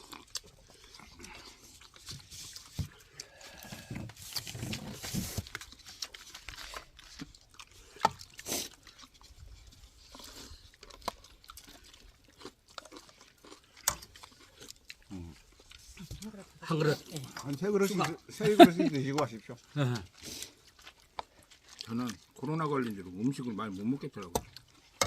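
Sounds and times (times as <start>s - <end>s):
people chewing: 0.0s - 25.0s.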